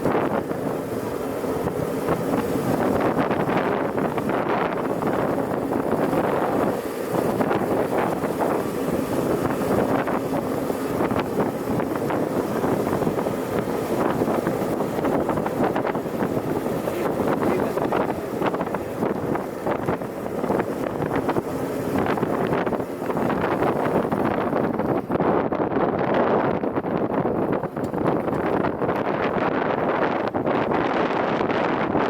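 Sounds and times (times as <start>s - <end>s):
truck engine driving: 0.0s - 25.5s, 26.4s - 32.0s
wind buffeting microphone: 0.0s - 32.0s.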